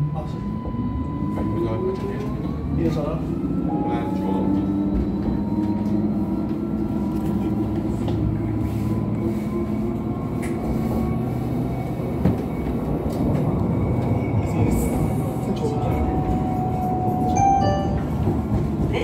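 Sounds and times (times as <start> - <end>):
light rail rumble and hum: 0.0 - 19.0.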